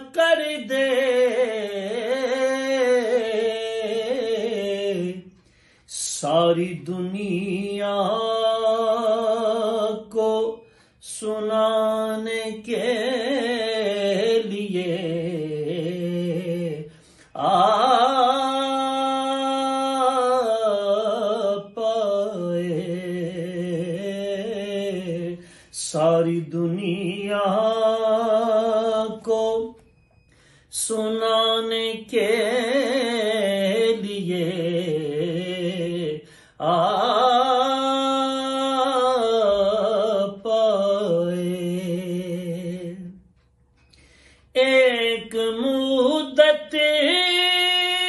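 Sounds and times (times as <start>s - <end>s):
man singing devotional song: 0.0s - 29.9s, 30.5s - 48.0s.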